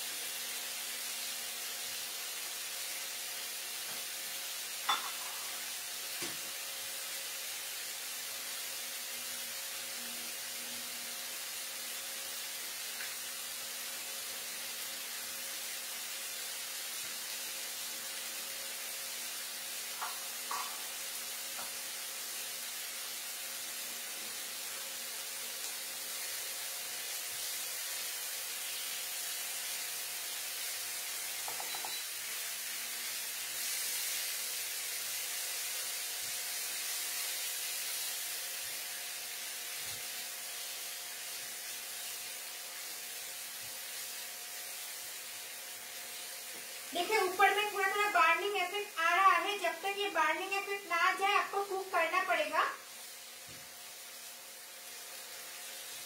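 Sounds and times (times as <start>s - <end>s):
chicken sizzling in oil: 0.0s - 56.0s.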